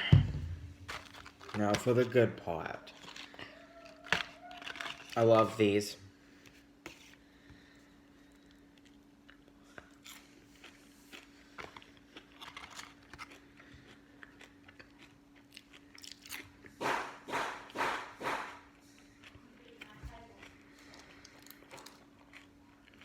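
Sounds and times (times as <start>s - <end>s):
chewing and crunching food: 0.8s - 23.0s.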